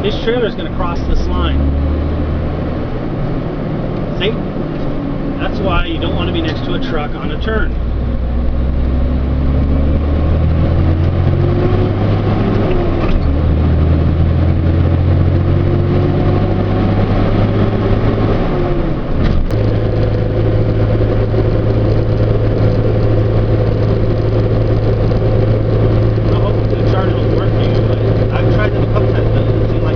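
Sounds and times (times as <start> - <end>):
truck engine running: 0.0 - 29.9.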